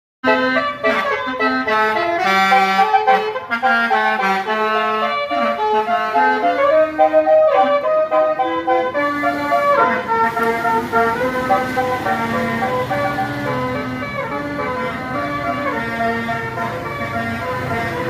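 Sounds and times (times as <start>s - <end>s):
bus musical horn tune: 0.2s - 18.0s.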